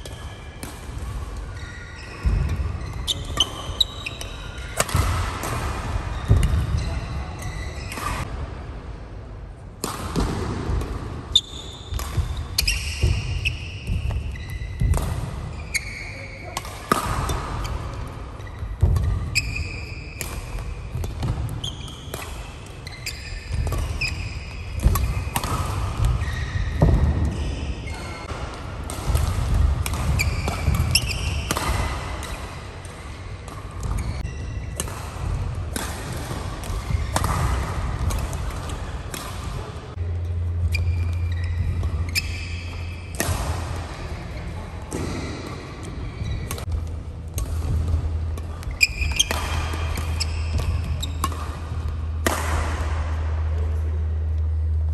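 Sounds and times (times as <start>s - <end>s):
rackets striking shuttlecock: 0.0s - 6.8s, 9.8s - 54.9s
shoes squeaking on court: 1.5s - 8.3s, 11.3s - 28.4s, 29.1s - 35.1s, 36.0s - 43.3s, 44.1s - 52.3s.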